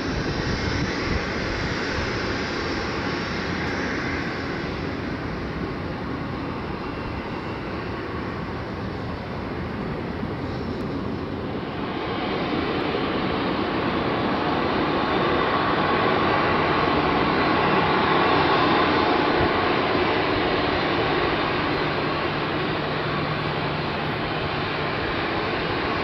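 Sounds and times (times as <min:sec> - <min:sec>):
jet engines rushing: 0:00.0 - 0:26.0.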